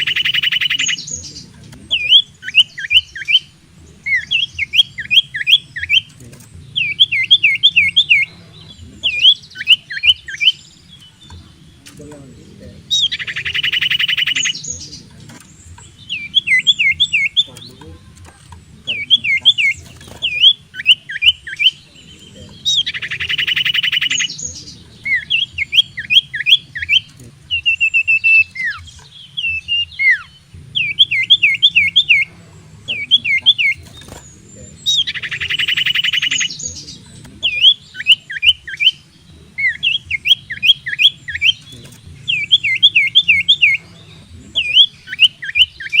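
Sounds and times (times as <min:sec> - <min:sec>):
bird whistling song: 0:00.0 - 0:46.0
fast buzzy bird trill: 0:00.0 - 0:46.0.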